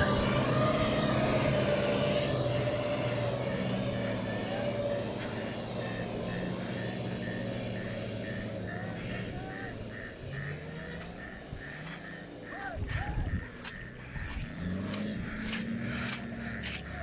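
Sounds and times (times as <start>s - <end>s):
vehicle engines droning: 0.0s - 17.0s.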